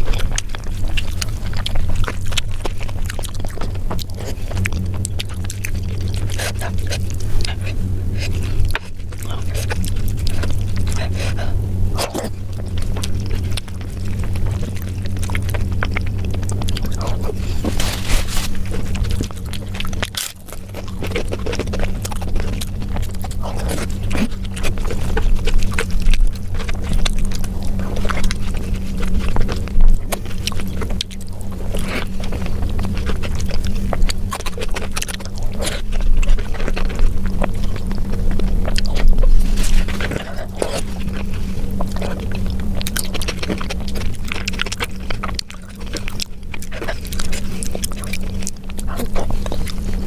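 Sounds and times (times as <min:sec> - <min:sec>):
chewing: 0:00.0 - 0:50.0
food being handled and scraped: 0:00.0 - 0:50.0
steady low hum: 0:00.0 - 0:50.0.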